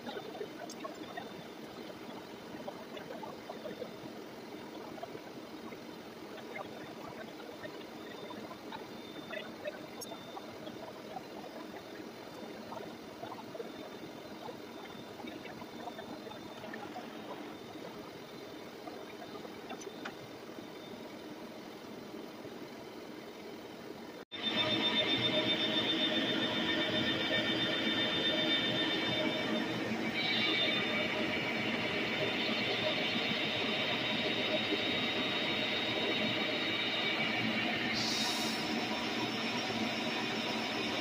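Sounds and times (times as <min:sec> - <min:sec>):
milling machine drone and whine: 0:00.0 - 0:41.0.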